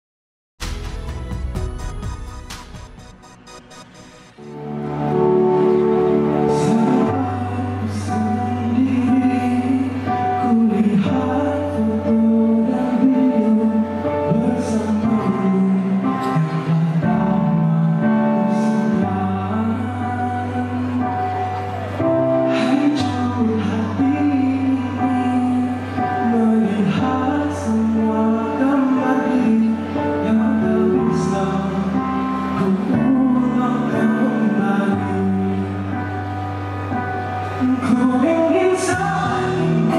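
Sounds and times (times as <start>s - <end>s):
sustained accompaniment chords: 0.7s - 39.9s
man singing: 6.4s - 36.3s, 37.5s - 39.9s.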